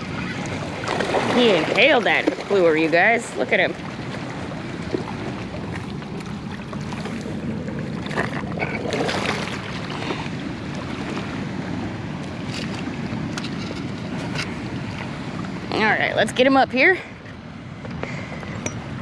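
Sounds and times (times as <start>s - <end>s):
moving water: 0.0s - 19.0s
wind: 0.0s - 19.0s.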